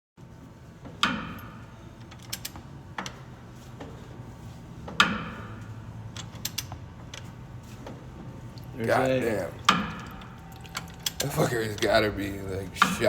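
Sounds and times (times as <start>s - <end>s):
low steady hum: 0.2s - 13.0s.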